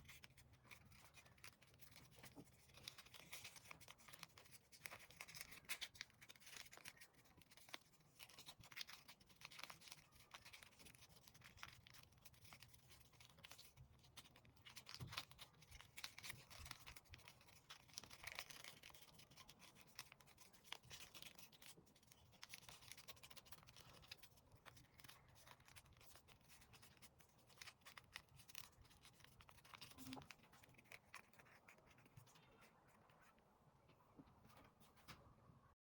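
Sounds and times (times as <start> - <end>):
paper rustling and creasing: 0.0 - 33.4.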